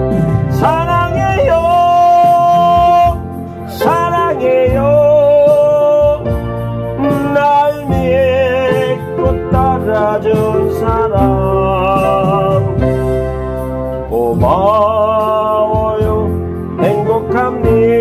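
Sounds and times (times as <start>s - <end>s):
keyboard ballad melody: 0.0s - 18.0s.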